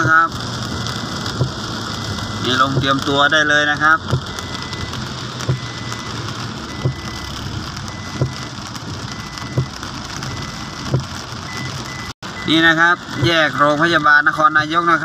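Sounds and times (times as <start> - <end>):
heavy rain on car: 0.0 - 15.0
road noise inside car: 0.0 - 15.0.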